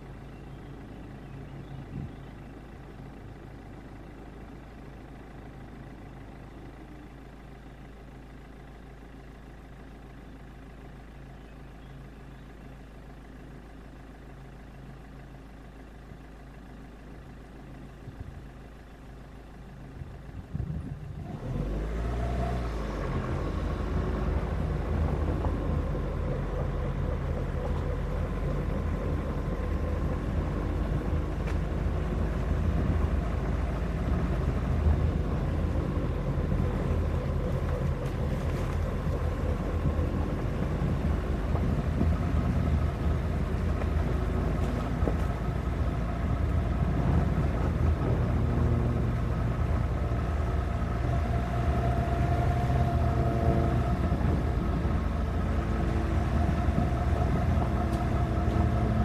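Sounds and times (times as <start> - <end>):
car engine idling and revving: 0.0 - 59.0
tyres on gravel road: 0.0 - 59.0.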